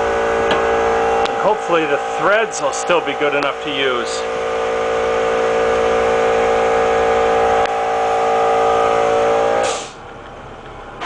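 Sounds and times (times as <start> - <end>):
boiler burner humming: 0.0 - 11.0.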